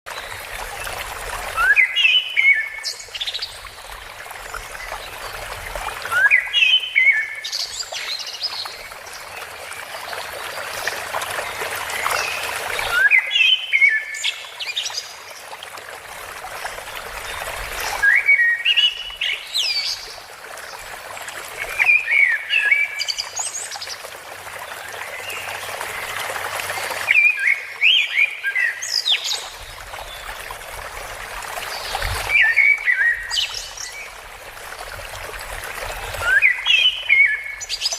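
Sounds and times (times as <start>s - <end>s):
flowing water rushing: 0.1s - 37.9s.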